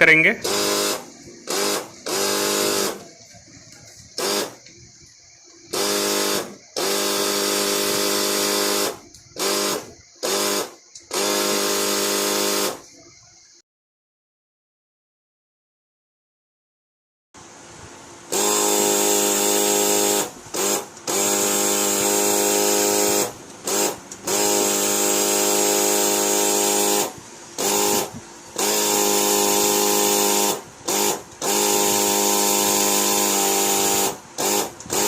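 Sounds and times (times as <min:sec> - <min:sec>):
electric starter buzzing: 0:00.0 - 0:03.2, 0:04.1 - 0:12.9, 0:17.4 - 0:35.0.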